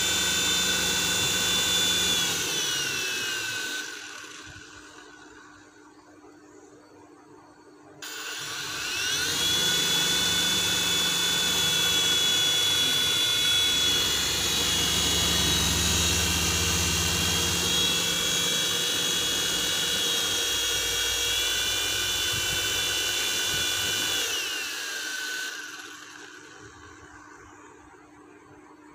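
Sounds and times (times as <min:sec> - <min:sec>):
toy helicopter rotor whine: 0:00.0 - 0:05.6, 0:08.0 - 0:27.6.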